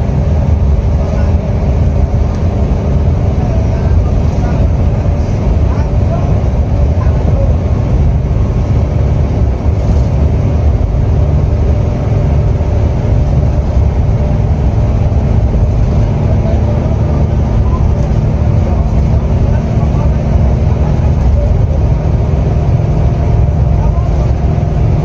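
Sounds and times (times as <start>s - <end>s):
coach engine drone: 0.0s - 25.0s
road noise: 0.0s - 25.0s.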